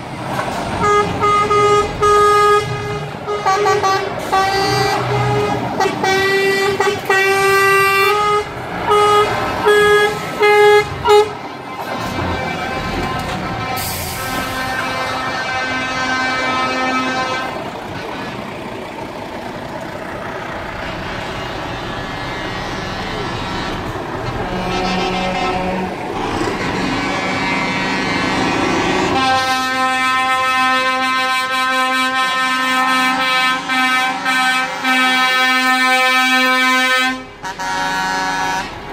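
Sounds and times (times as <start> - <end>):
passing trucks rumbling: 0.0 - 38.9
truck horns blasting: 0.7 - 38.9.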